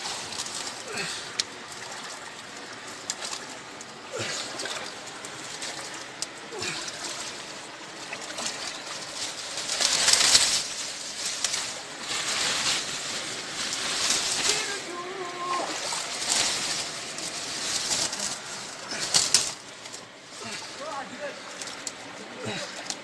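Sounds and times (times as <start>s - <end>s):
hands swishing leaves in water: 0.0s - 23.0s
water splashing in a stream: 0.0s - 23.0s.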